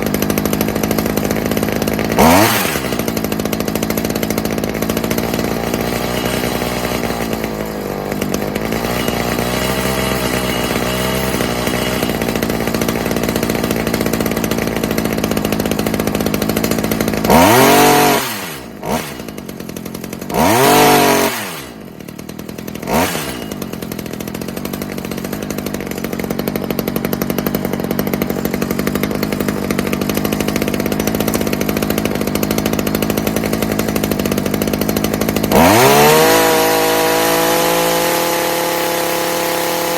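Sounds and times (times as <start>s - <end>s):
hedge trimmer engine idling and revving: 0.0s - 39.9s.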